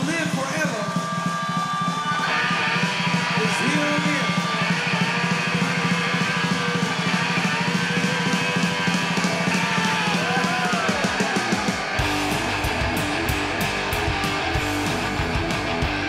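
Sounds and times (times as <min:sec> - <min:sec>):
busy drum kit: 0:00.0 - 0:16.0
rock music: 0:00.0 - 0:16.0
heavy bass and guitar: 0:01.8 - 0:16.0.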